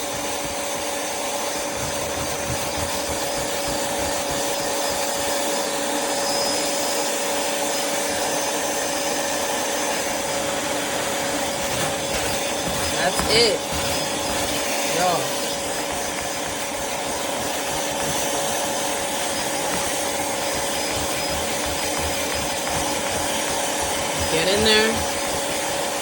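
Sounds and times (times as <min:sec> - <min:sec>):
carpet cleaner motor humming: 0:00.0 - 0:26.0.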